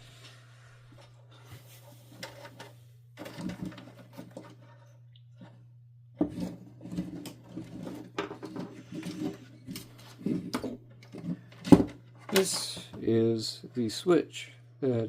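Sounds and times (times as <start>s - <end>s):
low steady hum: 0.0s - 15.0s
wires and plastic parts rustling: 0.1s - 14.1s.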